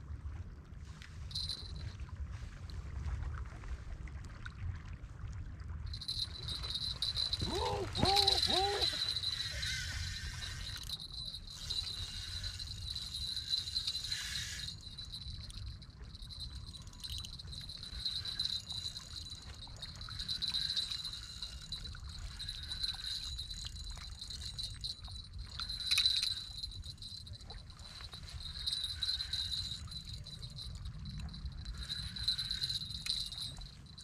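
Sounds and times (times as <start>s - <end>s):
wind rumble on microphone: 0.0s - 34.0s
fishing reel whirring: 1.3s - 1.8s, 5.9s - 34.0s.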